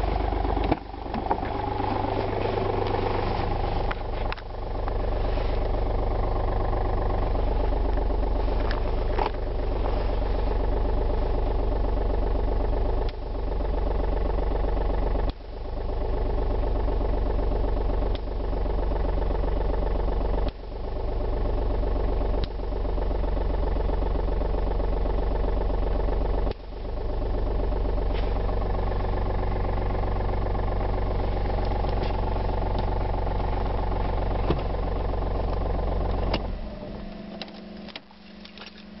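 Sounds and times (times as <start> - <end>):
diesel engine idling: 0.0 - 39.0
steady hum: 0.0 - 39.0.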